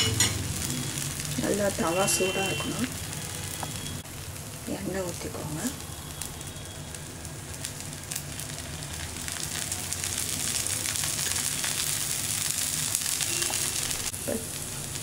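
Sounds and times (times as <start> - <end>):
batter sizzling in oil: 0.0 - 15.0.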